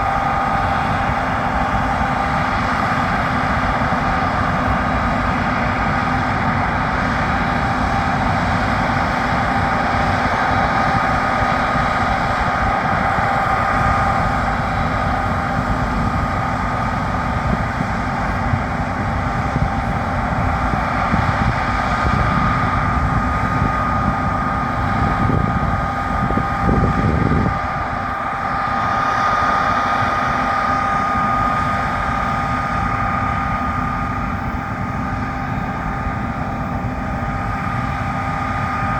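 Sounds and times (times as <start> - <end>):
harvest machinery engine drone: 0.0 - 38.9
high machinery whine: 0.0 - 38.9.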